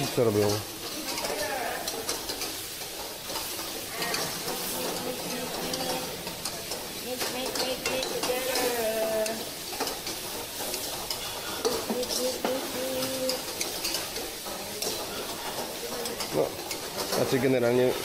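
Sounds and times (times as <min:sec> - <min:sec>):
spatula clacking on wok: 0:00.0 - 0:17.7
food sizzling in a wok: 0:00.0 - 0:18.0
metal spatula scraping wok: 0:00.0 - 0:18.0.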